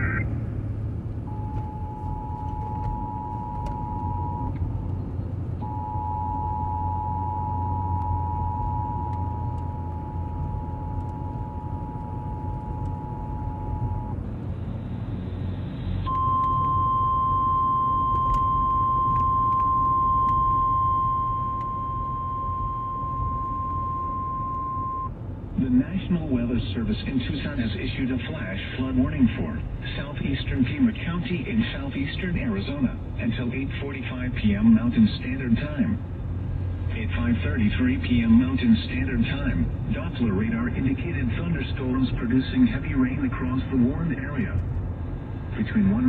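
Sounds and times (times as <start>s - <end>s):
low car rumble: 0.0s - 46.0s.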